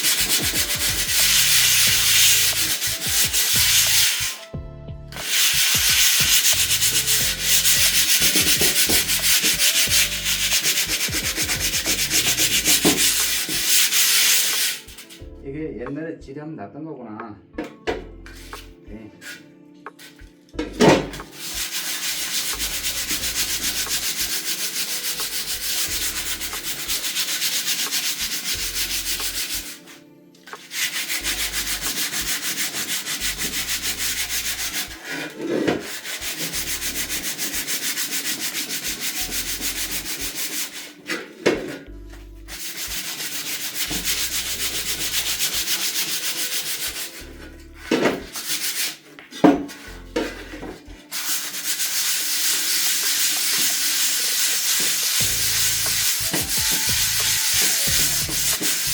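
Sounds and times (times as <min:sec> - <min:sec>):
sanding metal lid: 0:00.0 - 0:04.4, 0:05.2 - 0:15.1, 0:21.1 - 0:29.8, 0:30.6 - 0:41.3, 0:42.5 - 0:49.1, 0:49.7 - 0:58.9.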